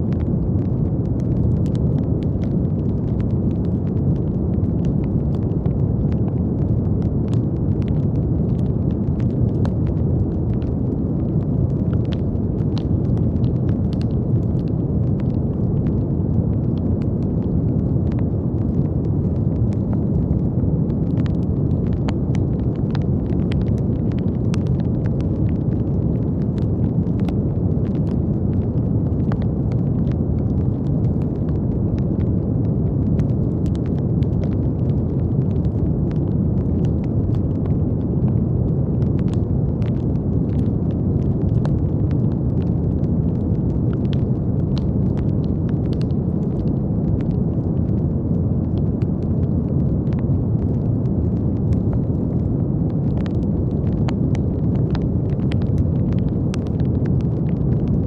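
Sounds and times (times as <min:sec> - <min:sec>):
brown noise hiss: 0:00.0 - 0:58.0
faint light crackles: 0:00.0 - 0:58.0.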